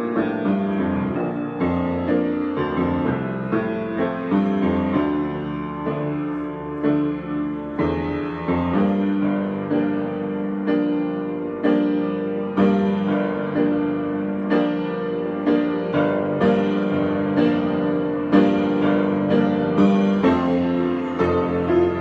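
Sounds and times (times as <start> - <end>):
solo piano chords: 0.0 - 22.0.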